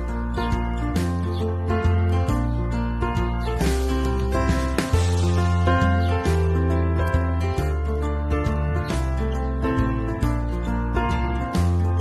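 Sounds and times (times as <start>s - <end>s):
pop music with plucked guitar: 0.0s - 12.0s.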